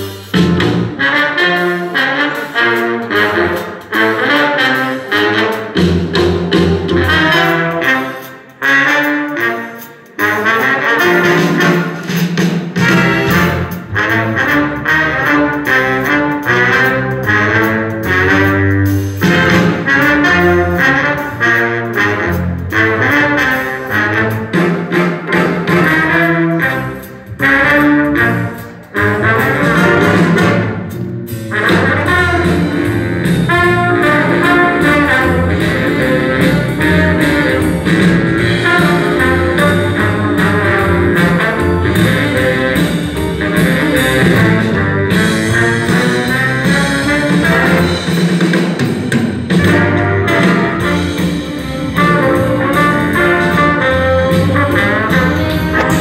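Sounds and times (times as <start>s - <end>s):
big band playing jazz: 0.0s - 56.0s.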